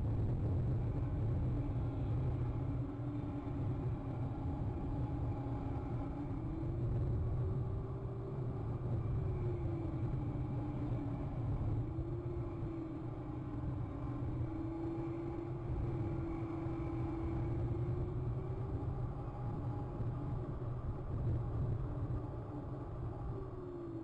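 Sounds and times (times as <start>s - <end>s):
low rumble with motor tone: 0.0s - 24.0s.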